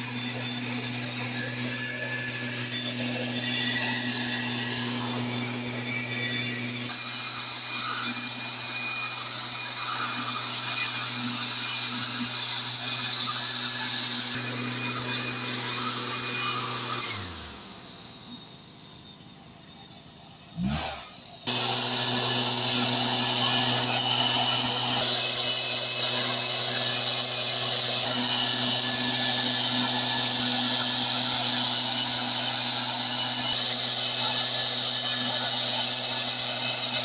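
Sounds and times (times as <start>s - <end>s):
mist blower engine running: 0.0s - 6.9s, 8.1s - 18.1s, 21.5s - 37.0s.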